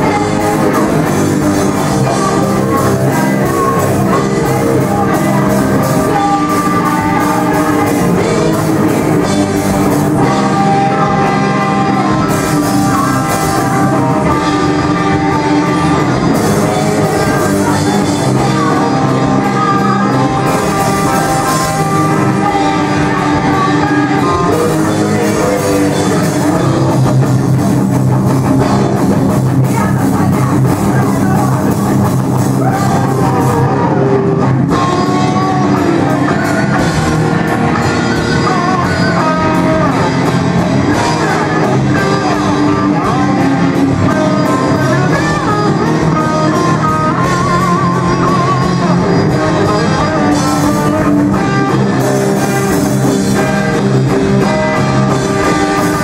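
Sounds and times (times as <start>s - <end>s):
electric guitar: 0.0s - 56.0s
live rock band: 0.0s - 56.0s.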